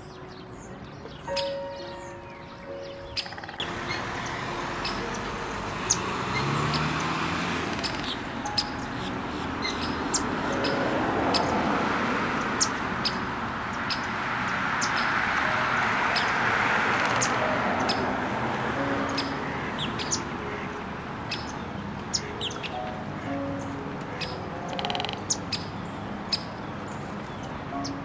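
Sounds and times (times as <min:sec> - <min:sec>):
small birds chirping: 0:00.0 - 0:11.6, 0:12.4 - 0:15.3, 0:19.0 - 0:28.0.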